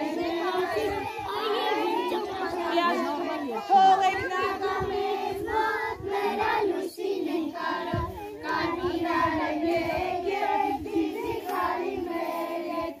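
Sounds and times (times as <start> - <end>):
children and adults singing: 0.0 - 13.0.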